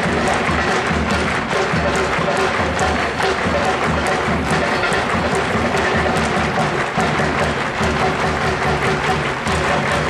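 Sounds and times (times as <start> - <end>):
crowd chanting with music: 0.0 - 10.0
crowd clapping rhythmically: 0.0 - 10.0.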